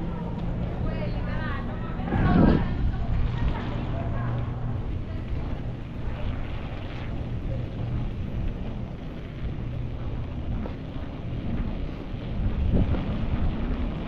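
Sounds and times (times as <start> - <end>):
bicycle tyres rolling on asphalt: 0.0 - 14.0
wind on microphone: 0.0 - 14.0.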